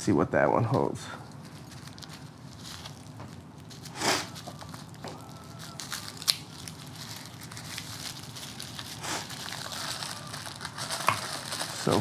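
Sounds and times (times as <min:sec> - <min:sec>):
paper wrapping crinkling: 0:01.3 - 0:12.0.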